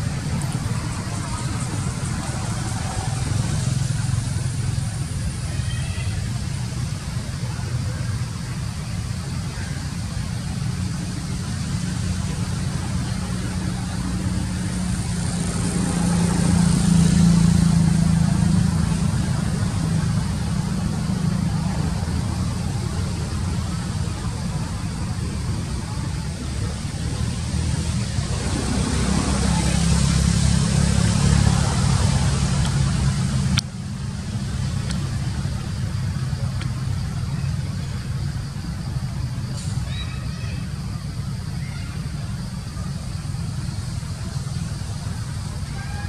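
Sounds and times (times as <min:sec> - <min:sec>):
vehicle engine passing: 0:00.0 - 0:39.9
traffic rumble: 0:00.0 - 0:46.0.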